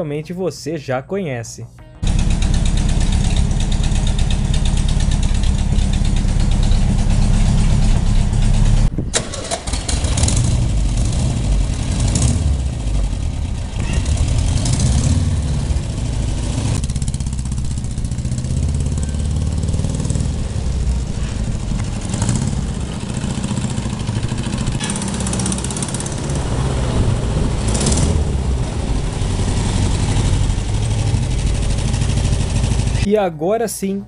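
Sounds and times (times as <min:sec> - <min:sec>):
motorcycle engine running: 0:02.0 - 0:08.9, 0:09.7 - 0:33.1.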